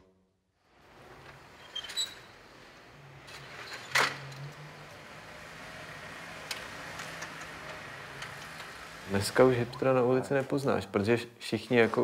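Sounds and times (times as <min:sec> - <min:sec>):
low street hum: 0:00.7 - 0:10.6.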